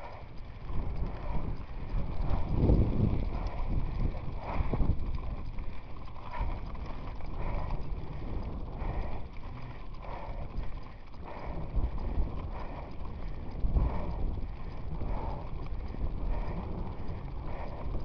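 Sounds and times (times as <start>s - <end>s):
mountain bike rumbling on trail: 0.0s - 18.0s
wind buffeting microphone: 0.0s - 18.0s.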